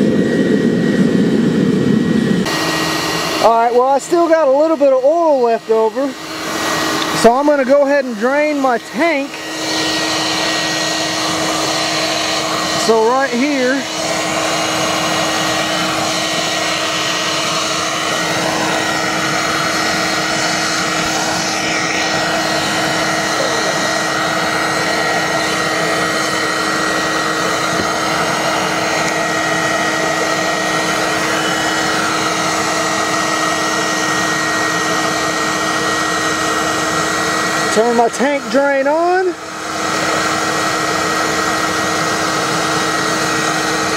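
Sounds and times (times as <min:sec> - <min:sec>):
forge burner and blower humming: 0:00.0 - 0:43.9.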